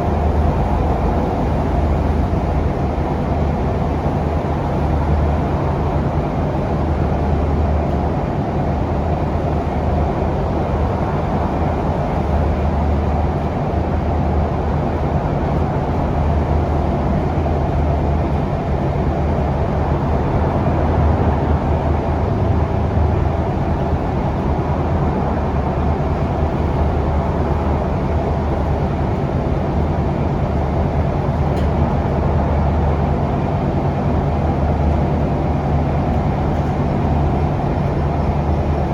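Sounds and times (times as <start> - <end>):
bus diesel engine hum: 0.0 - 38.9
road rumble: 0.0 - 38.9.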